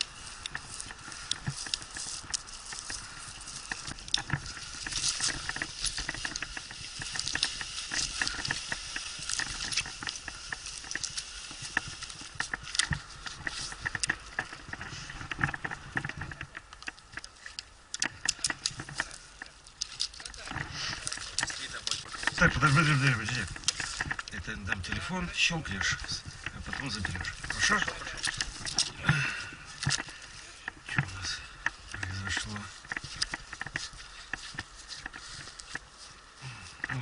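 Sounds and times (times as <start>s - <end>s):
sharp clicks and knocks: 0.0s - 35.9s
rustling: 0.0s - 37.0s.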